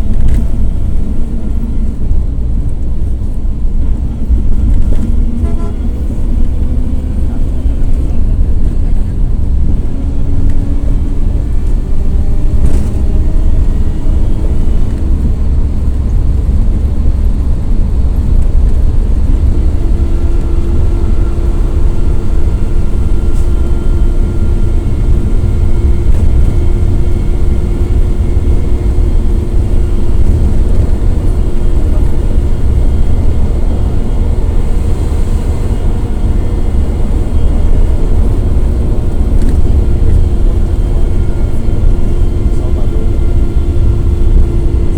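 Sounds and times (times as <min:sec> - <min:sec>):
diesel minibus engine running: 0:00.0 - 0:44.9
differential whine: 0:00.0 - 0:44.9.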